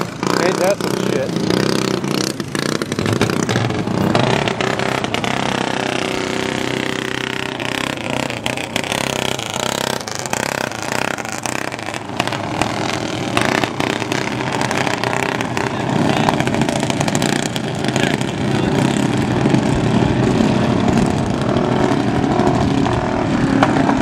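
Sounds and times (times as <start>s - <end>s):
go-kart engine running: 0.0s - 24.0s.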